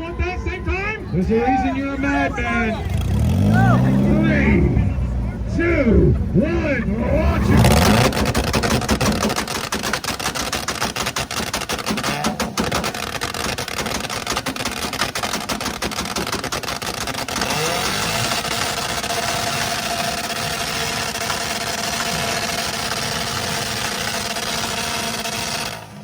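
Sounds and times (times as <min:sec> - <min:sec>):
car engines on rev limiters: 0:00.0 - 0:26.0
exhausts popping and banging: 0:00.0 - 0:26.0.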